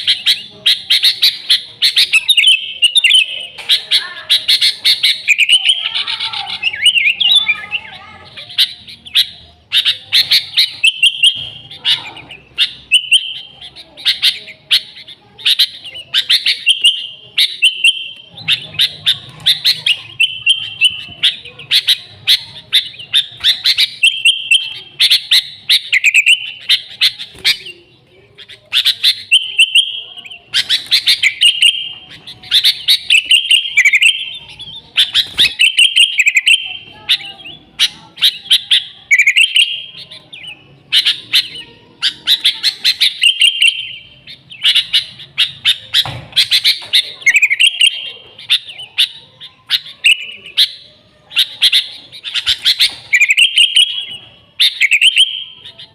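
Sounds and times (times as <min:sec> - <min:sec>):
bulbuls chirping: 0:00.0 - 0:55.9.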